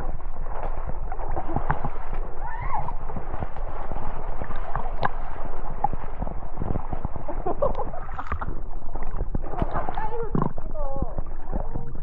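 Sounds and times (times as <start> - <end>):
rushing splashing water: 0.0 - 12.0.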